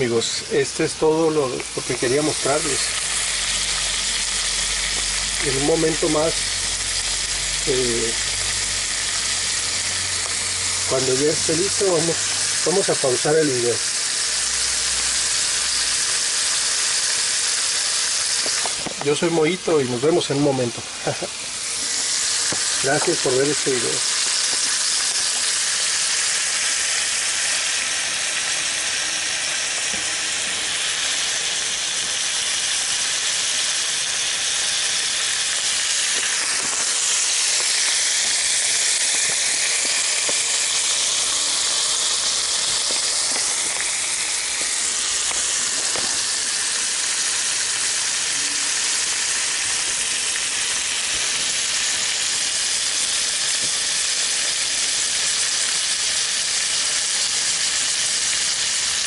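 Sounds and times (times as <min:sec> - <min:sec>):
fish sizzling in a pan: 0:00.0 - 0:59.0.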